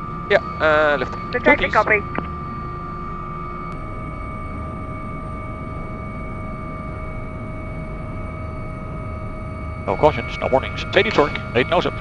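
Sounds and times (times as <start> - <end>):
helicopter deep rumble: 0.0 - 12.0
high turbine whines: 0.0 - 12.0.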